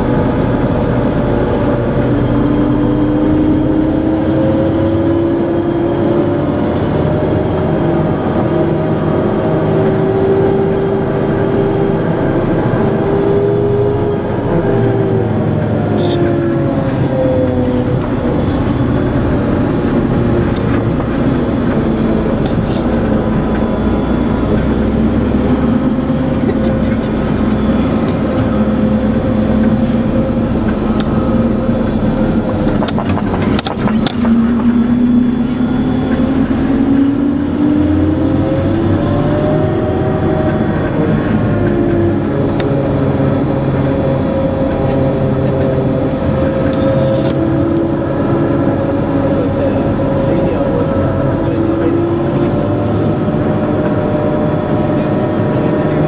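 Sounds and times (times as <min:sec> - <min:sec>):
diesel engine and drivetrain: 0:00.0 - 0:56.0.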